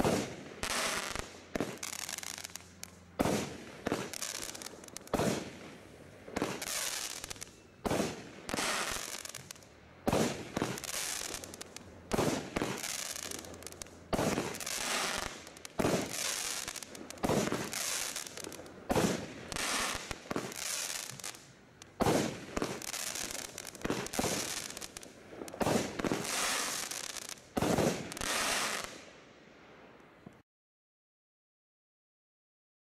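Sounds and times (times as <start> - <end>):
firework bangs with hiss: 0.0 - 29.1.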